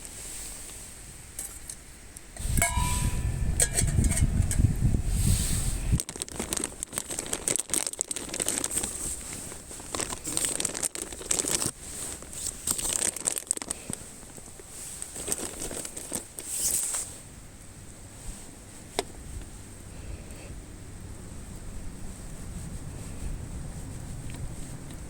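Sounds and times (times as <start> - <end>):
crinkly material rustling: 2.4 - 19.8, 21.3 - 25.0.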